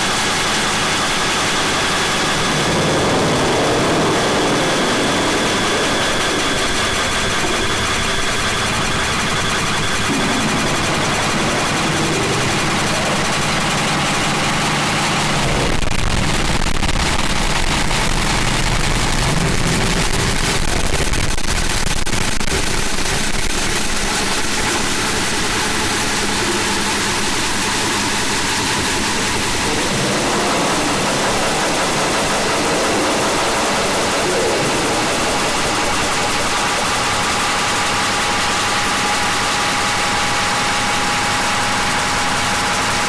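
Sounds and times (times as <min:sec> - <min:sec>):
harsh distorted static noise music: 0:00.0 - 0:43.0.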